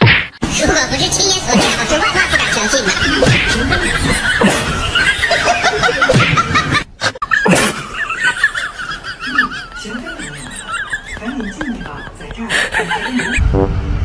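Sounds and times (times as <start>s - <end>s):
people laughing: 1.5s - 13.4s.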